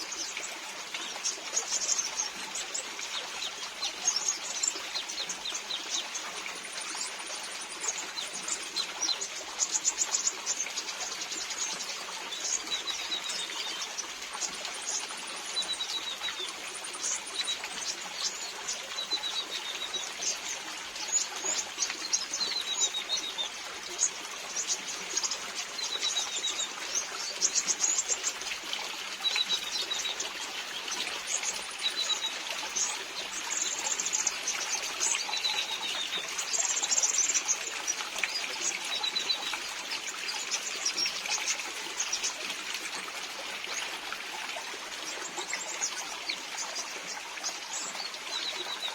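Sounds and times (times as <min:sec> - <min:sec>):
high ticking bird calls: 0:00.0 - 0:48.9
rain patter and trickle: 0:00.0 - 0:48.9.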